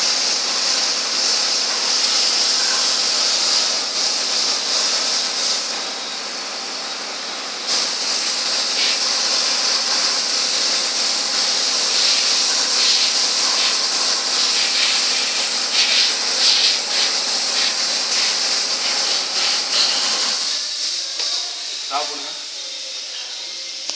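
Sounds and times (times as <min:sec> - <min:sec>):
spray gun air hissing: 0:00.0 - 0:05.9, 0:07.7 - 0:23.9.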